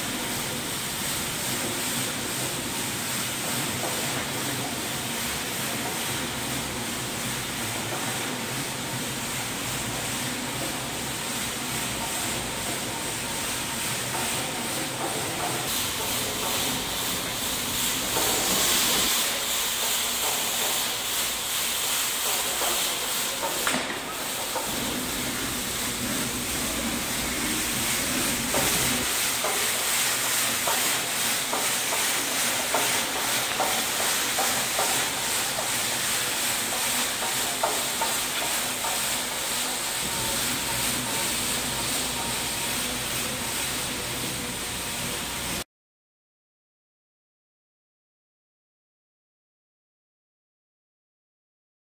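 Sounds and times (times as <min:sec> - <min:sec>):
rotary brush sweeping concrete floor: 0:00.0 - 0:45.6.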